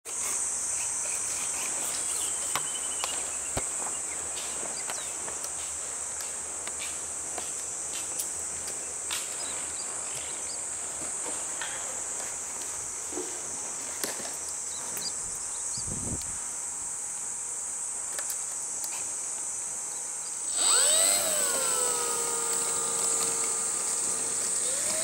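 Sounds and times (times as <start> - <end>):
insect chorus: 0.1 - 25.0.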